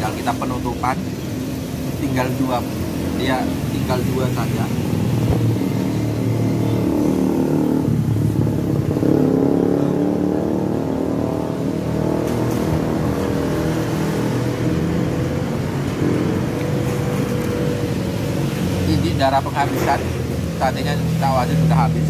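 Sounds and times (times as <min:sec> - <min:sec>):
vehicle engines passing: 0:00.0 - 0:22.0.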